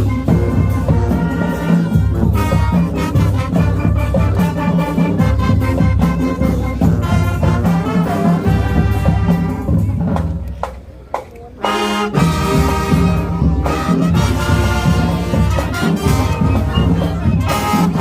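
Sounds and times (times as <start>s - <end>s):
held brass chord: 0.0s - 9.9s, 11.6s - 18.0s
marching band playing: 0.0s - 18.0s.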